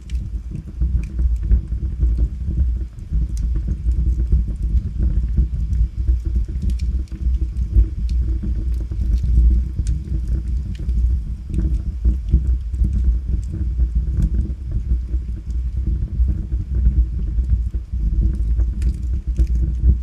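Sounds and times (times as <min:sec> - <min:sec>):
logs burning in fireplace: 0:00.0 - 0:20.0.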